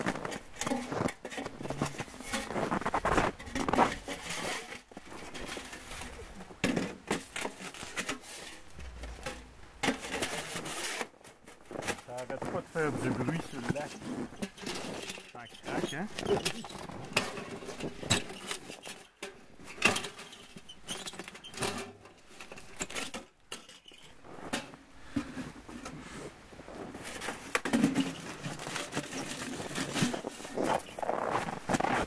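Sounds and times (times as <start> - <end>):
metal pipes clinking and scraping: 0.0 - 26.0, 26.9 - 32.0.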